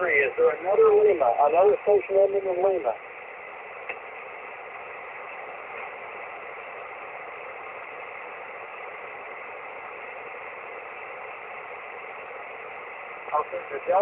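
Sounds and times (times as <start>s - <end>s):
shortwave receiver hiss: 0.0s - 14.0s.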